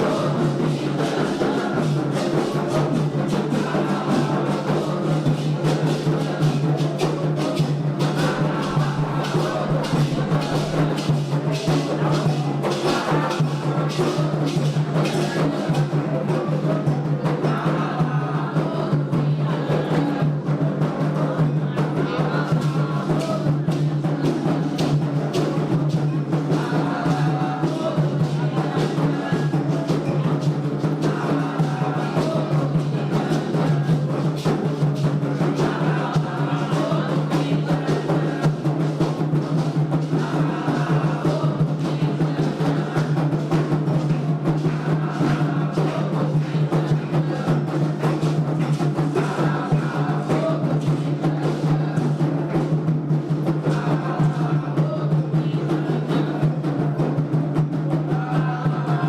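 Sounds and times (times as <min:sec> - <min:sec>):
hand drums playing: 0:00.0 - 0:59.0
voices singing: 0:00.0 - 0:59.0.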